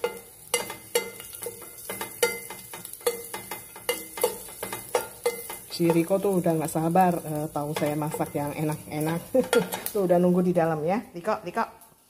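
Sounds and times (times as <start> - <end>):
light sizzle: 0.0 - 12.0.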